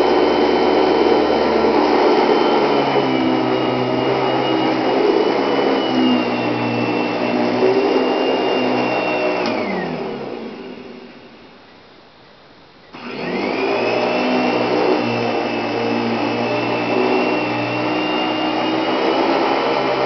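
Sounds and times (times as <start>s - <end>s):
vacuum cleaner running: 0.0s - 11.6s, 12.9s - 20.0s.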